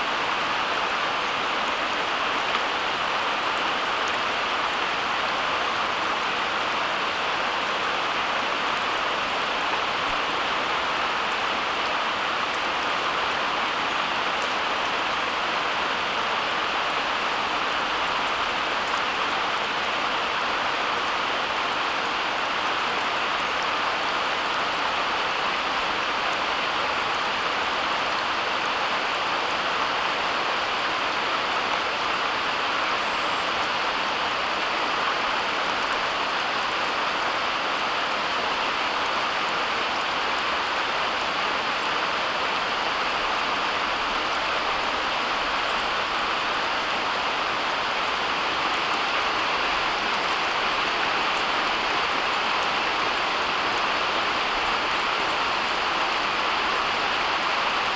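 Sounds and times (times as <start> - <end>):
steady hiss of rushing water: 0.0 - 57.9.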